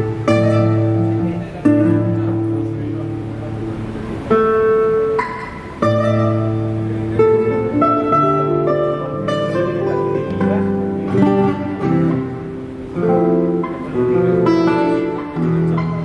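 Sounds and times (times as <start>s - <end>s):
plucked guitar melody: 0.0s - 16.0s.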